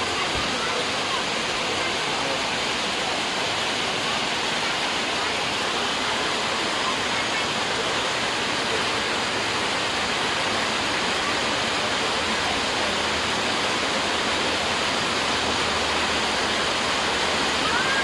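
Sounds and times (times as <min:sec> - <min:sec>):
falling water rushing: 0:00.0 - 0:18.0.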